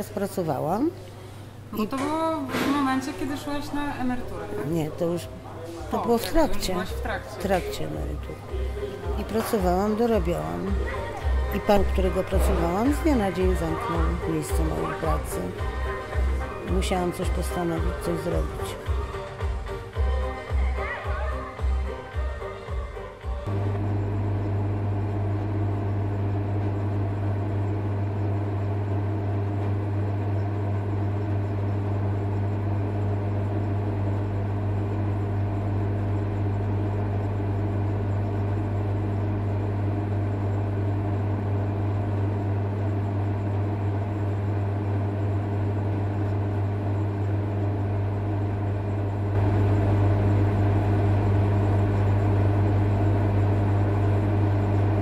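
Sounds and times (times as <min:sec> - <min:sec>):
low electrical hum: 0:00.0 - 0:22.5, 0:23.4 - 0:55.0.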